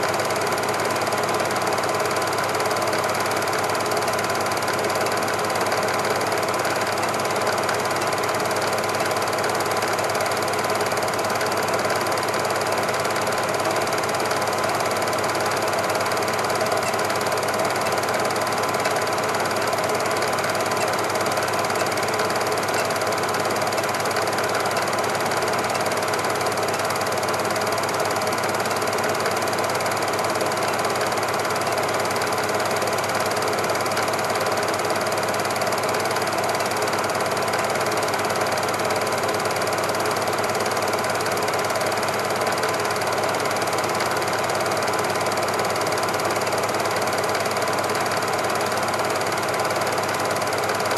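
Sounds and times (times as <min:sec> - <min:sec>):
film projector whirring and clattering: 0:00.0 - 0:50.9.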